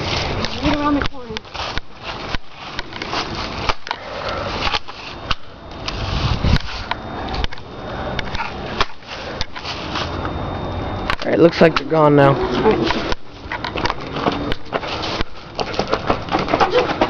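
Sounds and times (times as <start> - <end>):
rustling and scraping: 0.0 - 10.6, 11.4 - 17.0.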